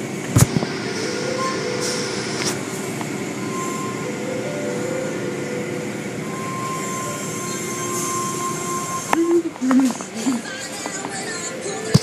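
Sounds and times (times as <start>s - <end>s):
faint steady whine: 0.0s - 12.0s
machinery hum: 0.0s - 12.0s.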